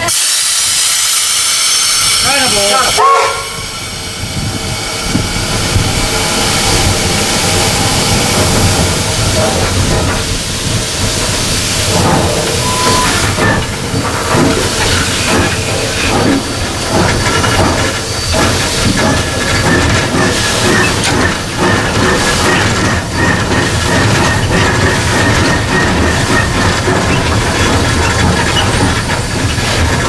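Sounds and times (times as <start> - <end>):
steam hissing: 0.0 - 30.0
steam locomotive exhaust beats: 0.0 - 30.0.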